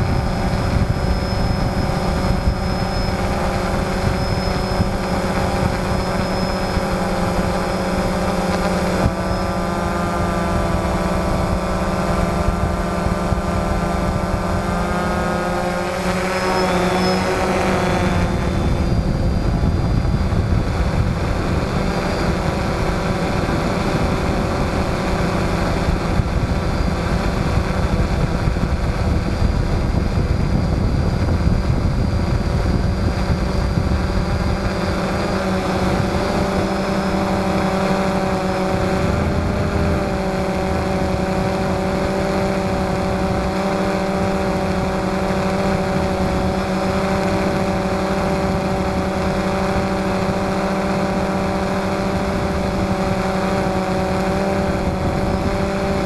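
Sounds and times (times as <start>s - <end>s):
drone motors whining: 0.0s - 56.0s
propeller wash and wind rumble: 0.0s - 56.0s.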